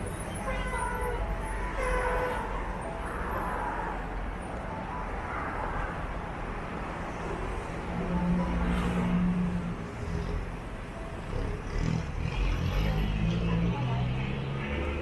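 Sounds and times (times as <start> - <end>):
passing cars: 0.0 - 15.0
vehicle engine hum: 0.0 - 15.0.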